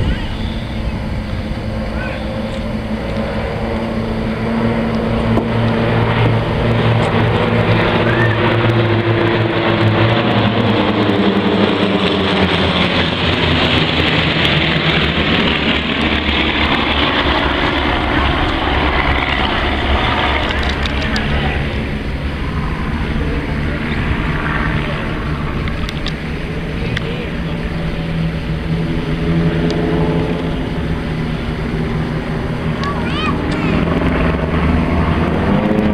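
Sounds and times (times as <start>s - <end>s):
propeller airplane flying past: 0.0s - 35.9s.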